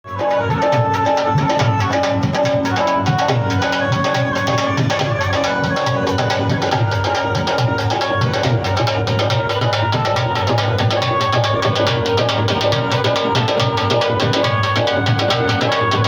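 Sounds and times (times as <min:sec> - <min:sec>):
barrel drum fast rhythm: 0:00.0 - 0:16.0
held melodic notes: 0:00.0 - 0:16.0.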